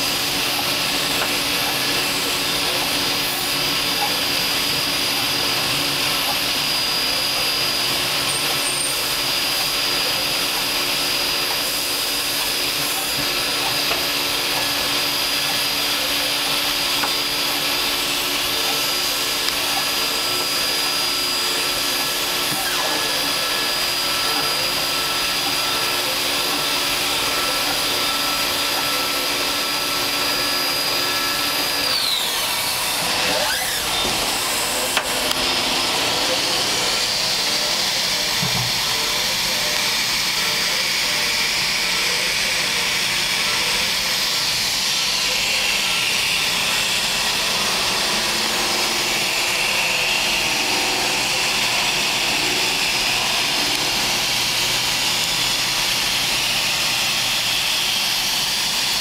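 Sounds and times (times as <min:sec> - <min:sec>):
machine hum and hiss: 0:00.0 - 0:59.0
spindle whine: 0:00.0 - 0:59.0.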